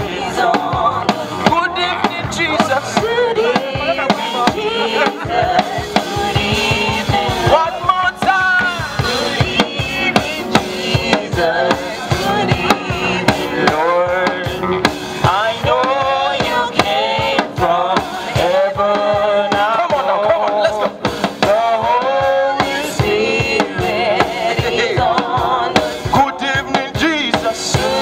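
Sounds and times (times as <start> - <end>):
drum beat: 0.0 - 28.0
keyboard: 0.0 - 28.0.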